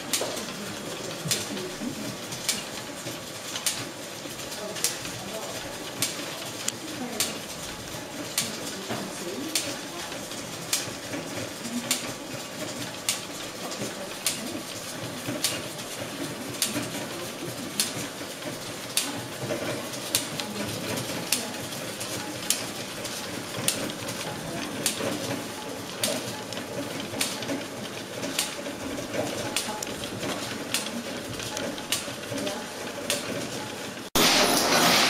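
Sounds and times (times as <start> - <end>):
loom mechanical clatter: 0.0 - 35.0.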